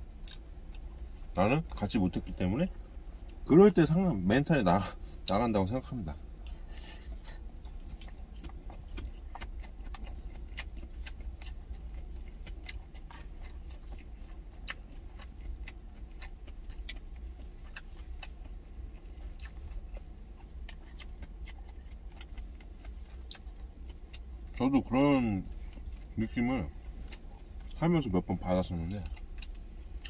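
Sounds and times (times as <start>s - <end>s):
low rumble inside truck cab: 0.0s - 30.0s
person chewing: 0.1s - 1.8s, 6.2s - 30.0s.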